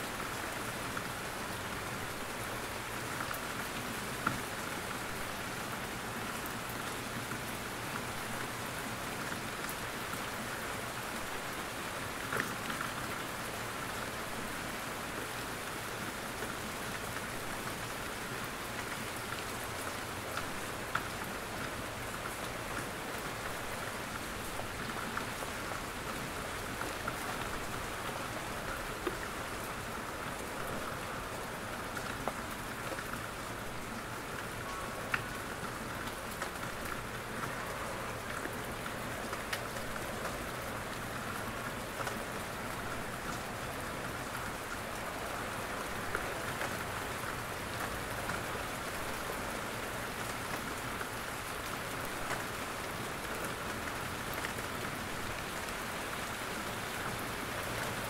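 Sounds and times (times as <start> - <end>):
rain hissing in a forest: 0.0 - 58.0.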